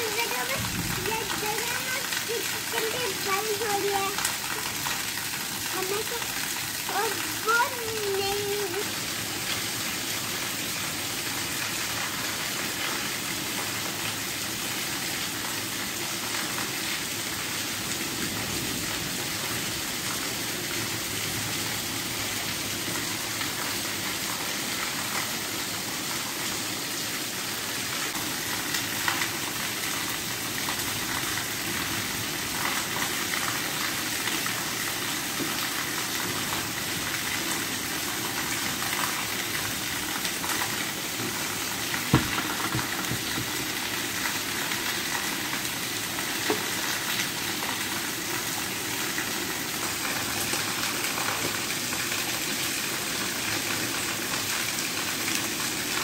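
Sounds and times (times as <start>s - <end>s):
heavy rain on leaves and concrete: 0.0s - 56.0s.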